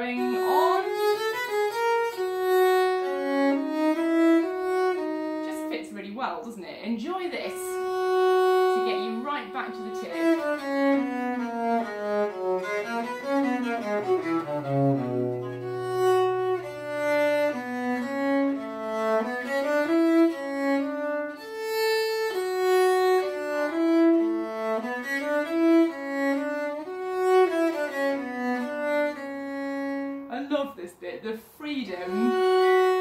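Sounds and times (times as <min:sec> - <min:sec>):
bowed viol melody: 0:00.0 - 0:06.4, 0:07.0 - 0:30.3, 0:31.9 - 0:33.0.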